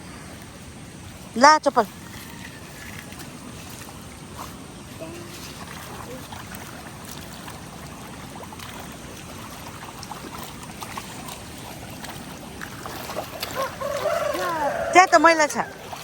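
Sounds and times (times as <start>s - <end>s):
rainwater runoff rushing: 0.0s - 16.0s
water ticks and splashes: 0.0s - 16.0s.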